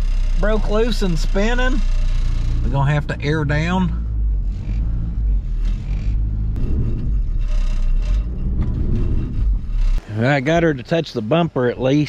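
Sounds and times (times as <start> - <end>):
car engine revving under load: 0.0 - 10.8.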